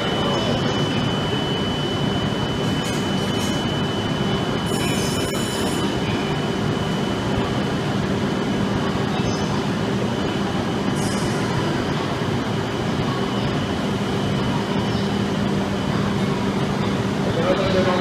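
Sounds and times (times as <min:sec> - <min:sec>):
train running on tracks: 0:00.0 - 0:18.0.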